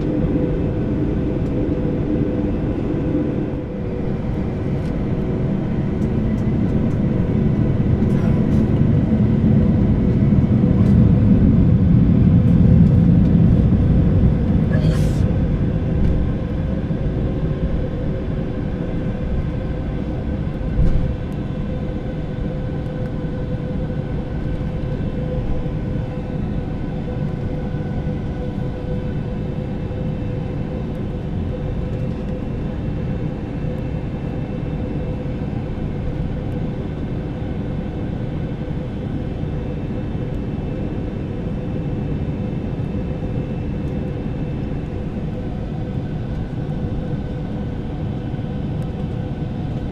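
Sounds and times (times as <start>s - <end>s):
aircraft cabin engine drone: 0.0s - 49.9s.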